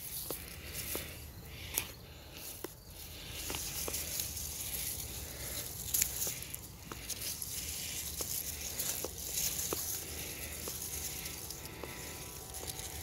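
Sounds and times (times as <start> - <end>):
leaves rustling and snapping: 0.0 - 13.0.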